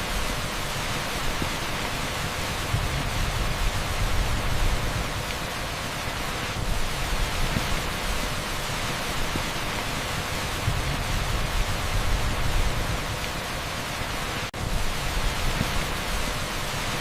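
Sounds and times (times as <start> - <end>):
torrential rain on asphalt: 0.0 - 17.0.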